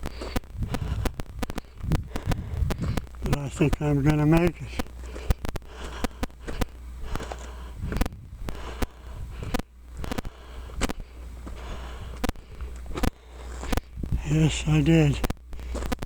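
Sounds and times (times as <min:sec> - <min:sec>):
footsteps crunching on rocky trail: 0:00.0 - 0:16.0
low steady rumble: 0:00.0 - 0:16.0.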